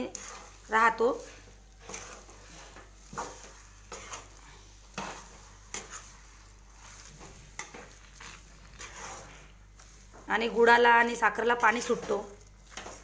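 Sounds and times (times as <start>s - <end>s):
metal spoon scraping a metal pan: 0.0s - 13.0s.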